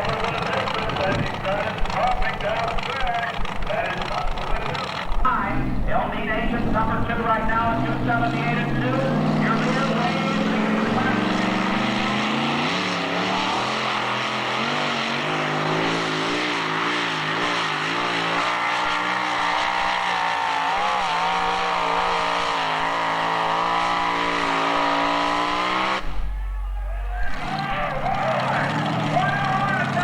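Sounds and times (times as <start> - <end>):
tractor engine at full throttle: 0.0 - 30.0.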